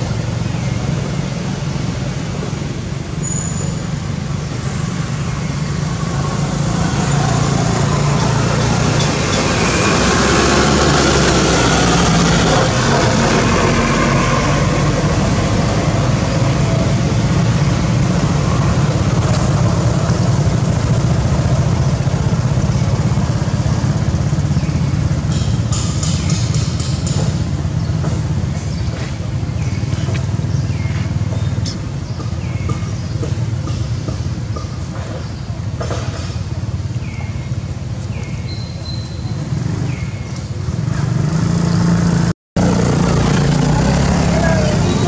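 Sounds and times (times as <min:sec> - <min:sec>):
motor vehicle engine running: 0:00.0 - 0:45.0.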